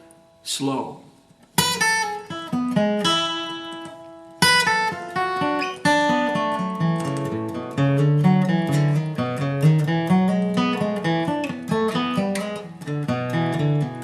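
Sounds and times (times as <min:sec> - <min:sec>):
acoustic guitar played slowly: 0:00.0 - 0:00.6, 0:01.2 - 0:14.0.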